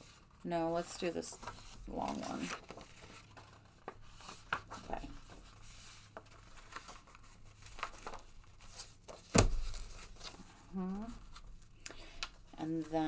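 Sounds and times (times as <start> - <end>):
paper rustling and shuffling: 0.0 - 13.0.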